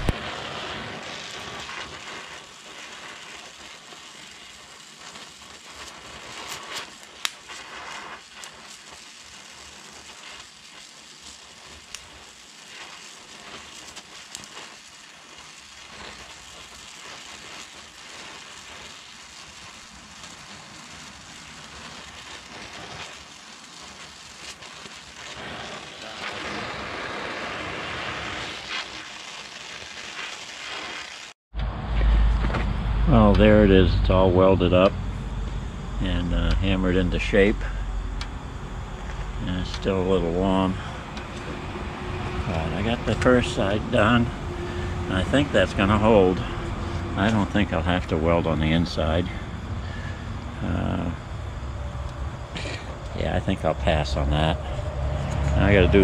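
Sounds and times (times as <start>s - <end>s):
welding torch hissing and crackling: 0.0s - 31.4s, 32.0s - 56.0s.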